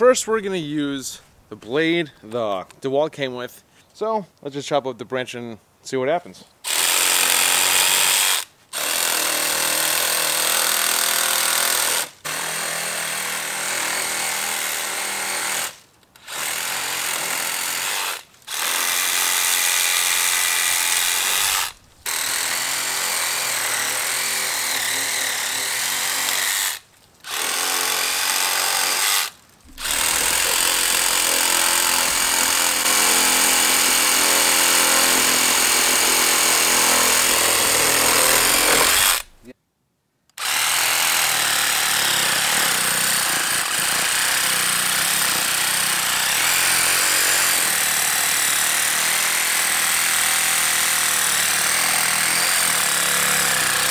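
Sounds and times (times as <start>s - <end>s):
reciprocating saw cutting branches: 6.6s - 39.5s, 40.4s - 53.9s.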